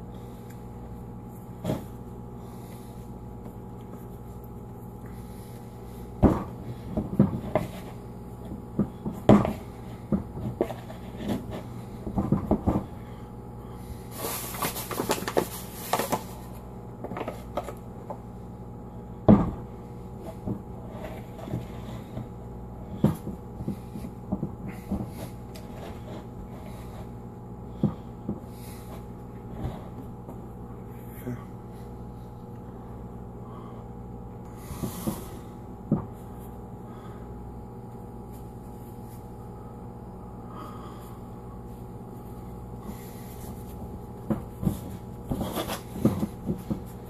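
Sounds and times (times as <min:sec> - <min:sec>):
scraping and rustling dough: 0:00.0 - 0:32.5, 0:34.5 - 0:37.2, 0:40.6 - 0:47.0.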